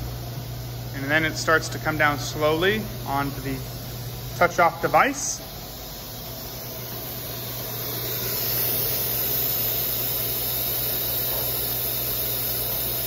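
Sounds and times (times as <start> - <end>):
machine low hum: 0.0 - 13.0
router spindle hiss: 0.0 - 13.0.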